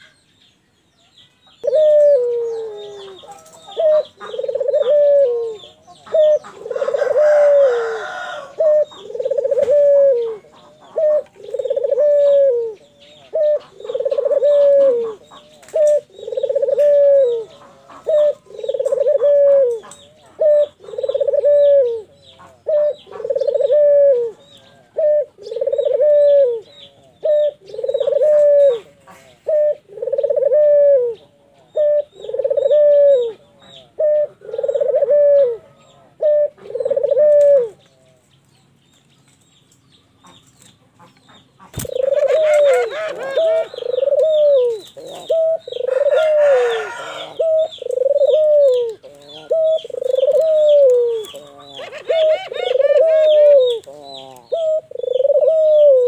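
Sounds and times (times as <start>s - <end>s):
dove cooing: 1.6s - 38.2s, 41.6s - 56.0s.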